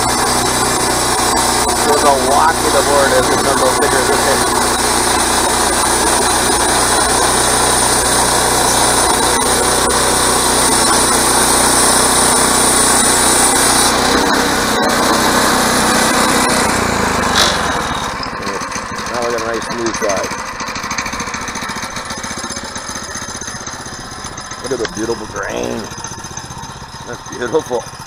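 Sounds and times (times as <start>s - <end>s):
bandsaw mill engine running: 0.0s - 28.0s.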